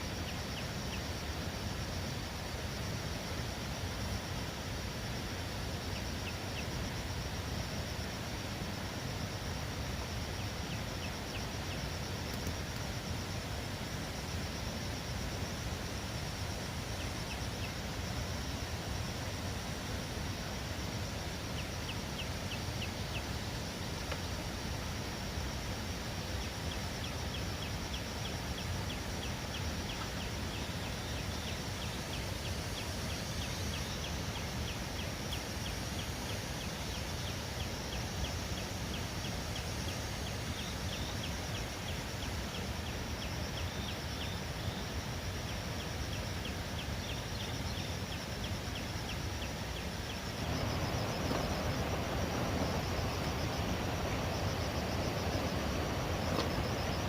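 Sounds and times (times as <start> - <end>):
outdoor background noise: 0.0 - 57.0.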